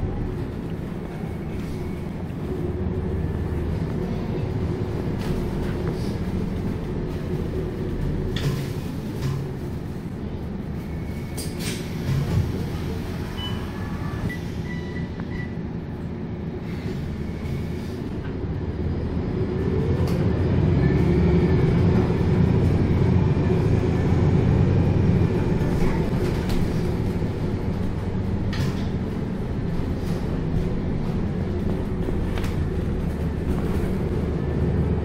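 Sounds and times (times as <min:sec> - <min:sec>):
bus diesel engine: 0:00.0 - 0:35.0.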